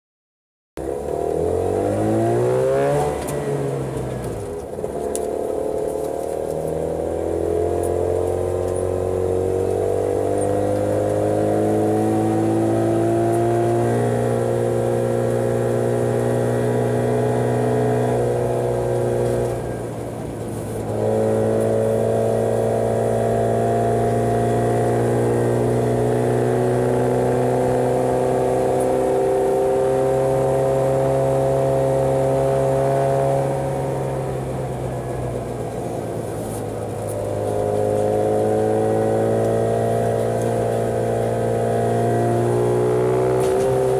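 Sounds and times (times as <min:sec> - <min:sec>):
two-stroke car engine revving: 0:00.8 - 0:43.9.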